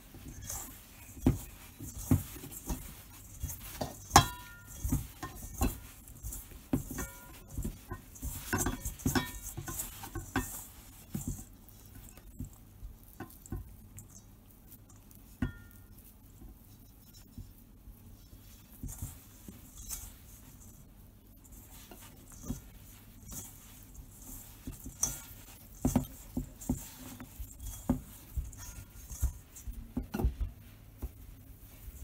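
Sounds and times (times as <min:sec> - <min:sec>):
hands kneading dough: 0:00.0 - 0:32.0.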